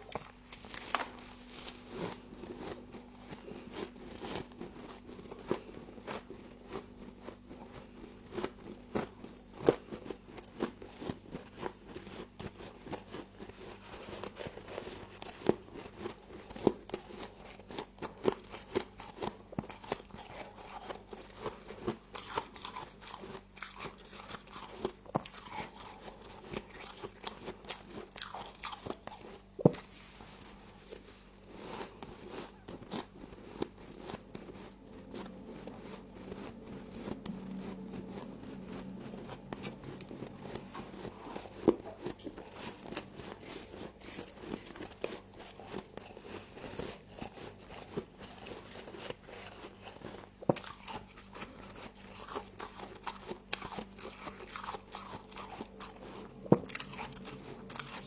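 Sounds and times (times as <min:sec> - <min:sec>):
frost being chewed: 0:00.0 - 0:58.0.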